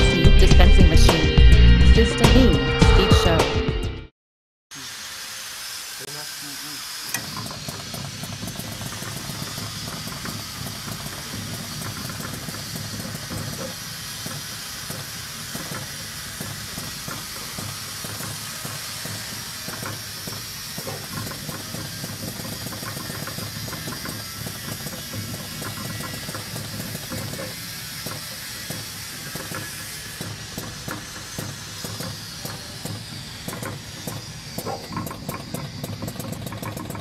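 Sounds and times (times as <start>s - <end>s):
machine hissing: 4.7s - 37.0s.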